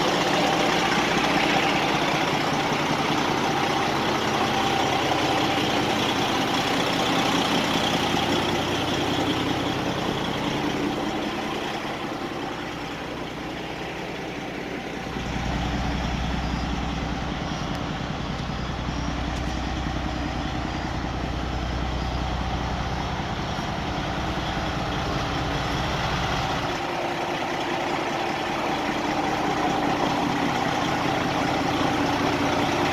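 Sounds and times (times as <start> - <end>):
truck engine running: 0.0 - 32.9.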